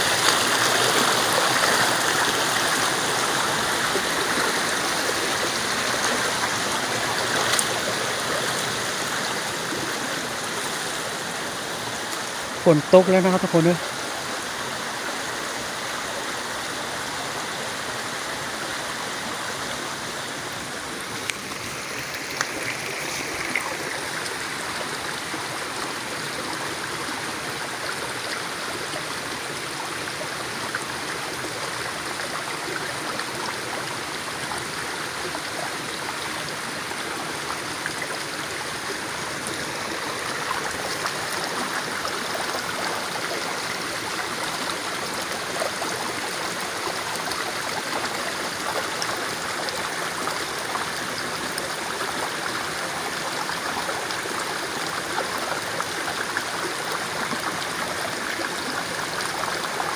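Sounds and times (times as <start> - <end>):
stream flowing over stones: 0.0 - 59.9.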